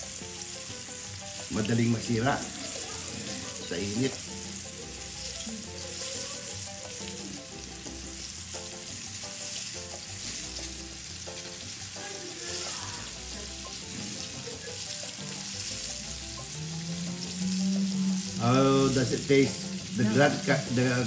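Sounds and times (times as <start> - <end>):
background music: 0.0 - 21.0
fish sizzling in a pan: 0.0 - 21.0.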